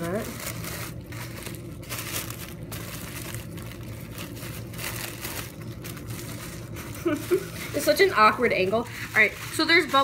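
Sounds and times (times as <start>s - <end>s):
tissue paper crinkling: 0.0s - 10.0s.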